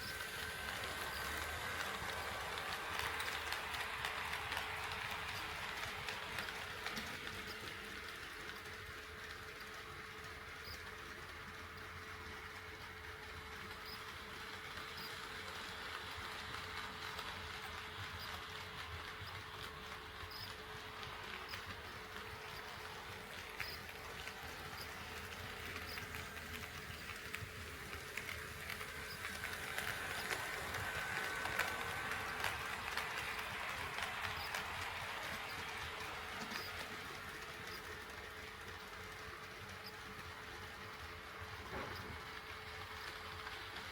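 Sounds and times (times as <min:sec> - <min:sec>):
model train motor and wheel whir: 0:00.0 - 0:43.9.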